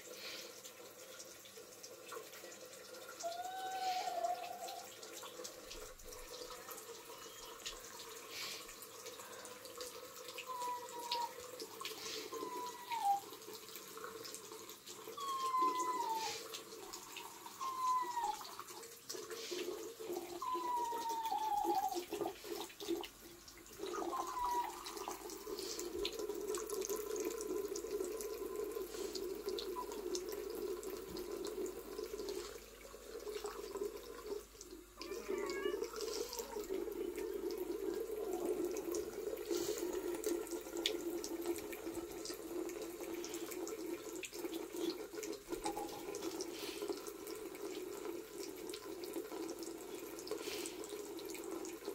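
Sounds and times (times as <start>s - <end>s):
tap water running into a sink: 0.0s - 51.9s.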